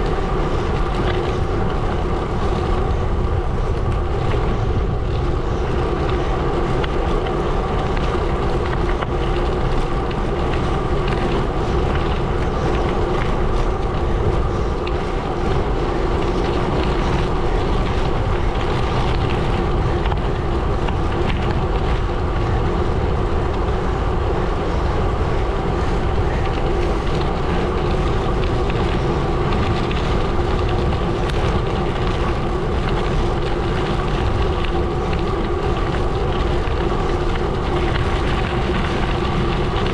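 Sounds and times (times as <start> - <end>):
bike tyres crunching on gravel: 0.0 - 39.9
steady hum: 0.0 - 39.9
wind on microphone: 0.0 - 39.9.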